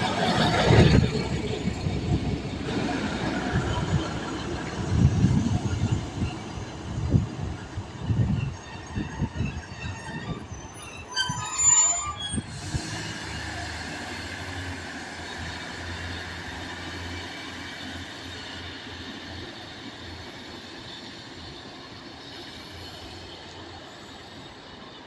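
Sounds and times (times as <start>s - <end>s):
passing train hum and rush: 0.0s - 25.0s.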